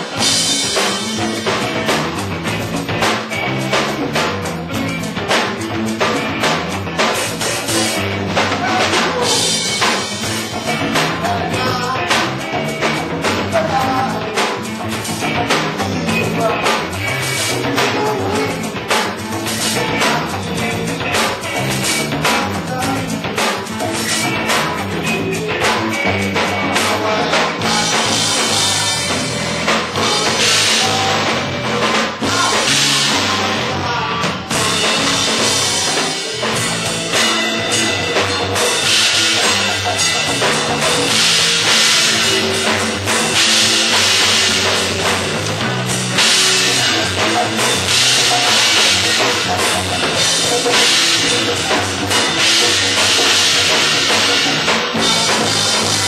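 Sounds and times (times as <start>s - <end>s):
congas: 0.0s - 56.0s
drum kit: 0.0s - 56.0s
live funk band playing: 0.0s - 56.0s.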